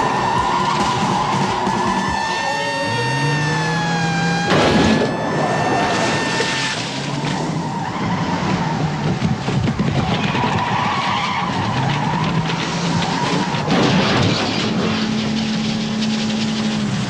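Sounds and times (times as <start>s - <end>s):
car engine noise: 0.0s - 17.0s
car tyres skidding and squealing: 0.0s - 17.0s.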